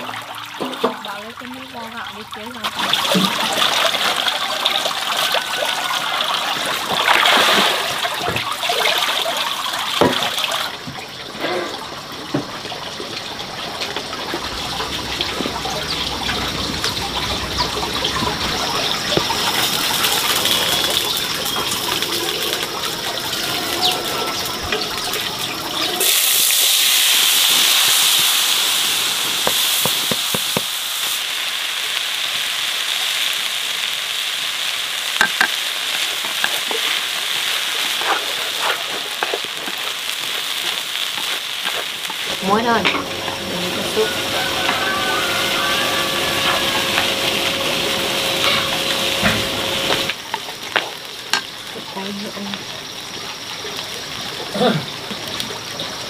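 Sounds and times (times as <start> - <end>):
water sloshing and gushing: 0.0 - 31.8, 35.2 - 56.0
food frying in a pan: 0.0 - 56.0.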